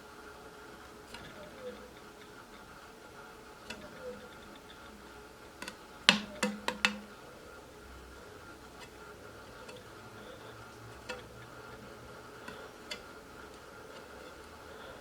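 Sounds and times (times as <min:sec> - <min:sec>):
motor bearing squeaking: 0:01.0 - 0:15.0.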